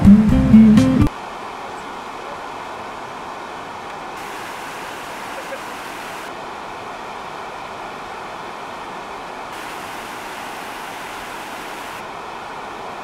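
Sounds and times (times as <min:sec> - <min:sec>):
river rushing over rocks: 0:01.1 - 0:13.0.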